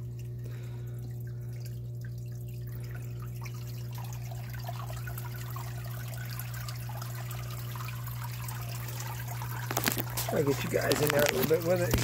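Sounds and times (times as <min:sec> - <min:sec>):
steady low hum: 0:00.0 - 0:12.0
water trickling and dripping: 0:00.0 - 0:12.0.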